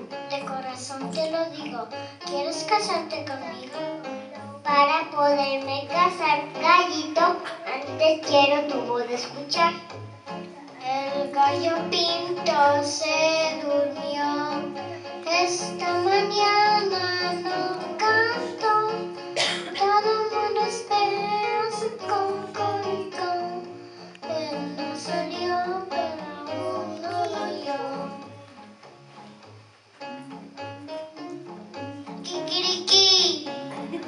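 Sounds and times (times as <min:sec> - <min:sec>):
child singing into microphone: 0:00.0 - 0:28.8, 0:30.0 - 0:34.0
instrumental accompaniment: 0:00.0 - 0:34.0.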